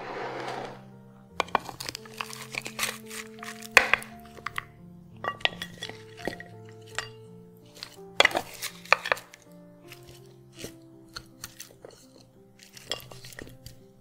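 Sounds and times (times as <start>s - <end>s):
wooden spatula scraping plates: 0.0s - 13.9s
soft background music: 0.0s - 14.0s.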